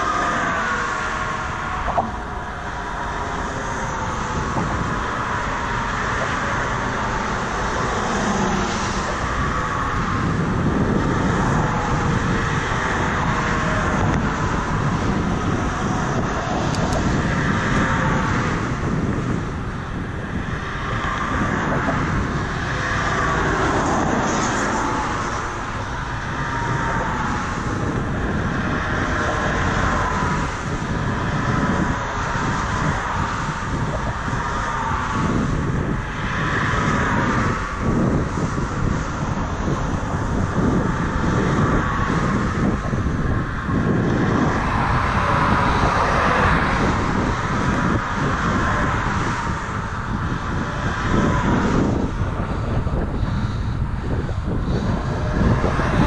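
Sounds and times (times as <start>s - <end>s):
rushing traffic: 0.0s - 56.0s
wind: 0.0s - 56.0s.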